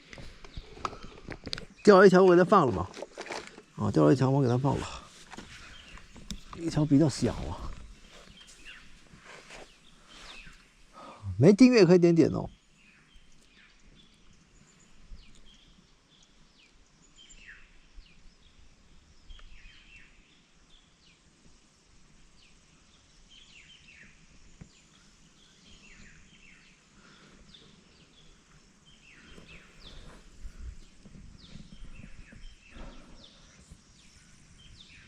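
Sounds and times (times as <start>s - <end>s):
birds chirping: 0.0s - 21.3s, 22.3s - 35.0s.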